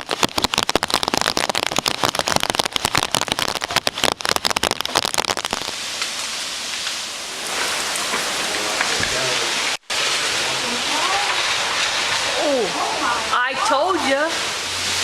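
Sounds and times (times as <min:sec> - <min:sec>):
rain on hard surface: 0:00.0 - 0:15.0.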